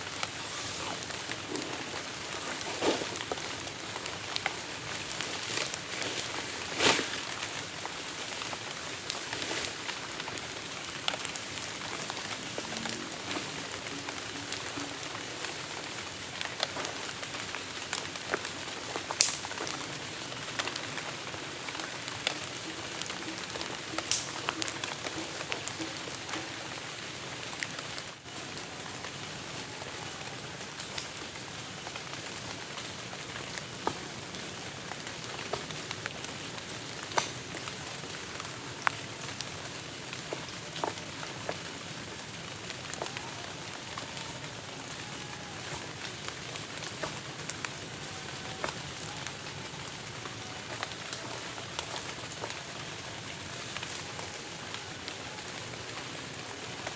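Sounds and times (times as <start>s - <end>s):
heavy rain falling: 0.0s - 56.9s
raindrops ticking on a surface: 0.0s - 56.9s.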